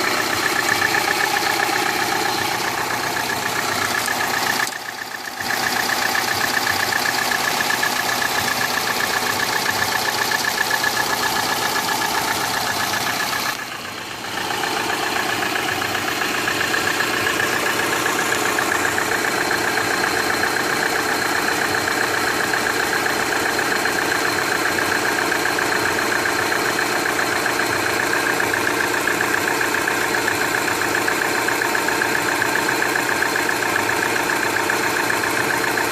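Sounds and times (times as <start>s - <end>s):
car engine idling with knock: 0.0s - 35.9s.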